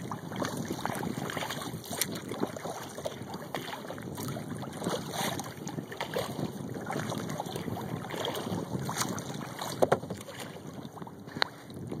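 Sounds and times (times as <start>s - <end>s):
water splashing around kayak: 0.0s - 12.0s
wind on microphone: 0.0s - 12.0s.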